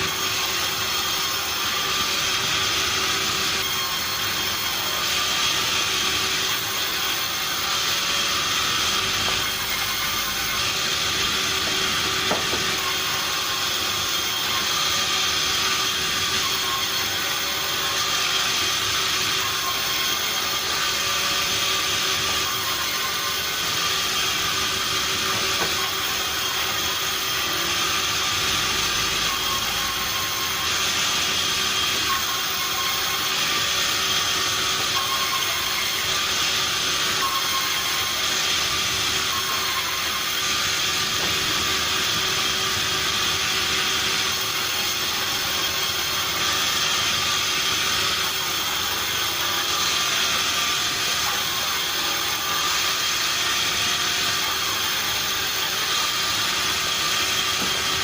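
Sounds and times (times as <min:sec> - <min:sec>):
sawmill machinery humming and whining: 0:00.0 - 0:58.0.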